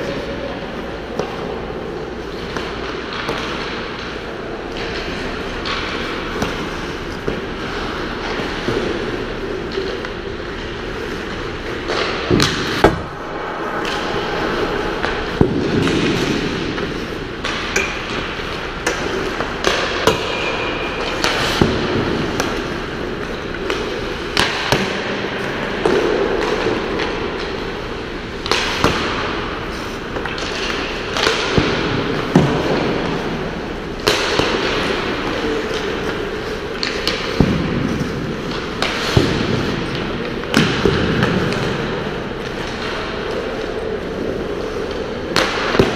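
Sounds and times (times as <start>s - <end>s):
skates scraping ice: 0.0s - 27.7s, 28.5s - 45.9s
hockey sticks striking pucks: 0.0s - 45.9s
pucks hitting boards: 0.0s - 45.9s.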